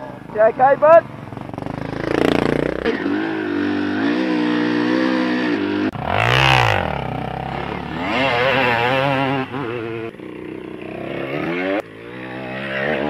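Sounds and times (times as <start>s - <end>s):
dirt bike engines: 0.0s - 13.0s
dirt bike passing by: 0.0s - 13.0s.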